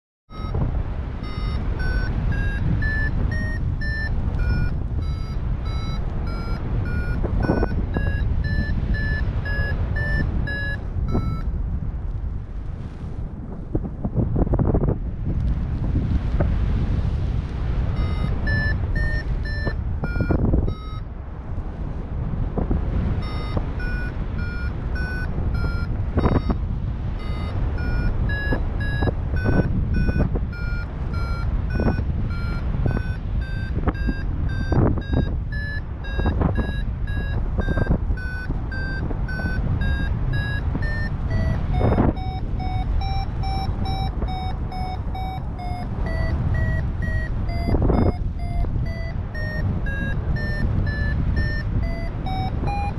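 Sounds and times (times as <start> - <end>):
variometer beeping: 0.3 - 11.5, 17.9 - 21.1, 23.1 - 52.9
wind rushing over microphone: 0.3 - 52.9.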